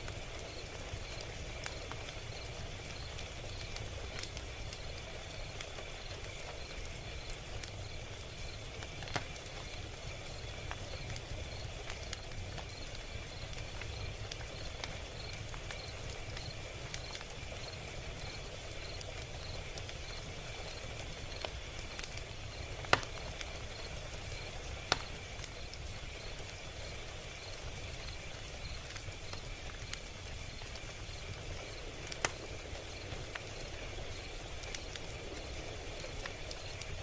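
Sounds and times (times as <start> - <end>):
fire pops and snaps: 0.0 - 37.0
low rumble of burning logs: 0.0 - 37.0.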